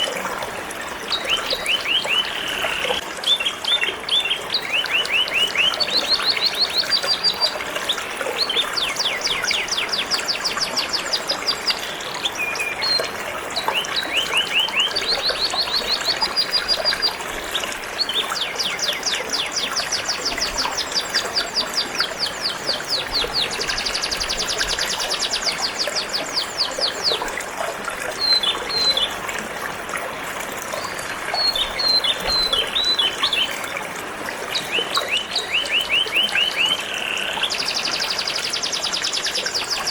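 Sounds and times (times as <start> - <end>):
trickle of flowing water: 0.0 - 39.9.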